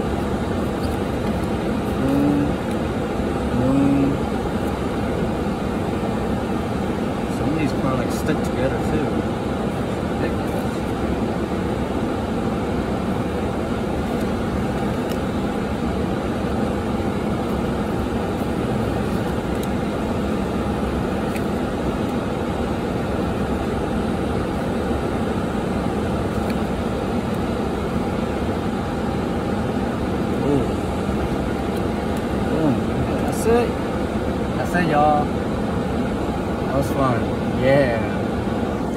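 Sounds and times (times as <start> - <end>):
car engine and fan hum: 0.0 - 38.9.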